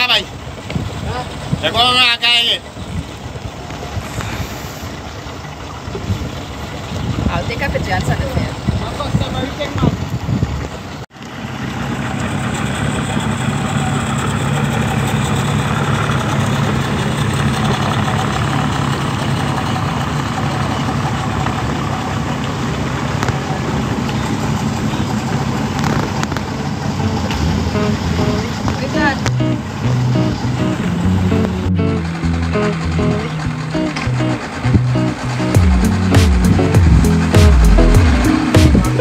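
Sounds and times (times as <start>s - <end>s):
outboard motor idling: 0.0s - 39.0s.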